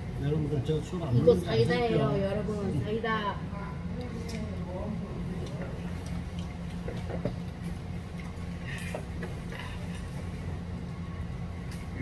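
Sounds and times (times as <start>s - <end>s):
steady low room hum: 0.0s - 12.0s.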